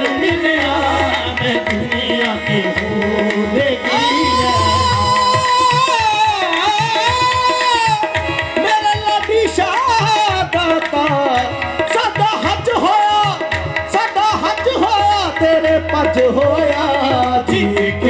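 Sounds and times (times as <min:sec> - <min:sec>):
harmonium melody: 0:00.0 - 0:18.0
tabla rhythm: 0:00.0 - 0:18.0.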